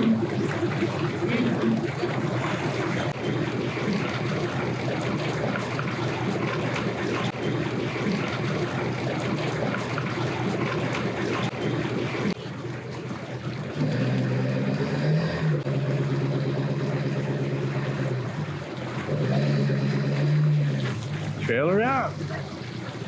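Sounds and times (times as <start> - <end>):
motor humming steadily: 0.0 - 23.0
rough engine and water rumble: 0.0 - 23.0.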